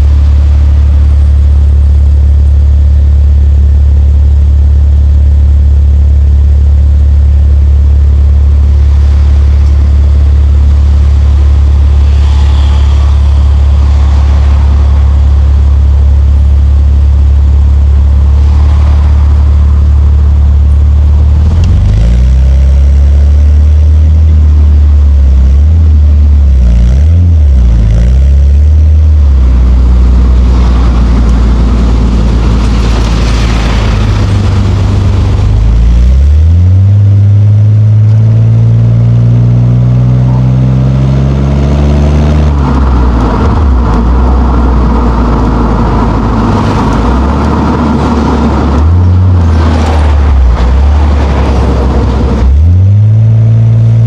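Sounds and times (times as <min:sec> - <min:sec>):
car engine driving: 0:00.0 - 0:54.0.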